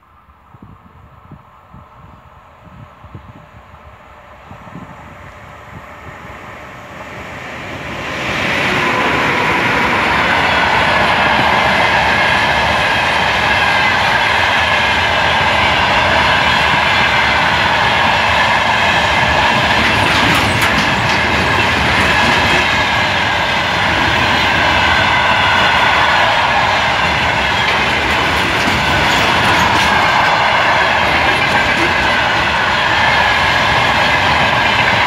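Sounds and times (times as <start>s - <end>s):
train wheels rumbling on rails: 0.5s - 35.0s.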